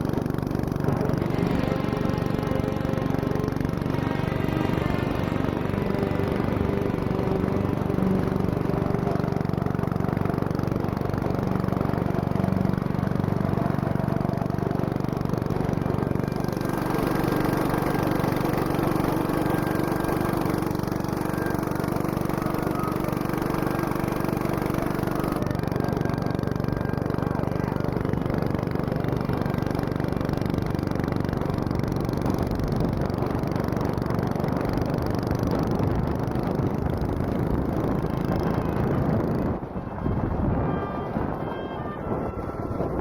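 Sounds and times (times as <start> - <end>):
go-kart engine running: 0.0 - 43.0.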